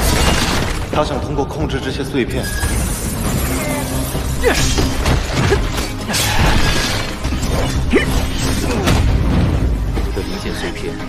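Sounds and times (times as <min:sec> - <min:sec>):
dramatic background music: 0:00.0 - 0:11.0.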